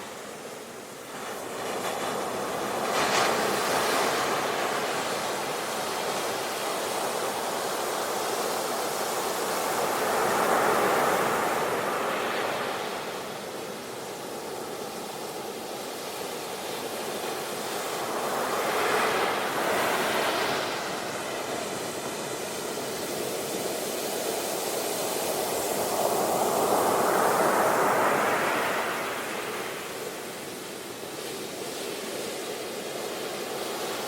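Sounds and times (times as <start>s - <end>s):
ocean waves breaking on beach: 0.0s - 34.0s.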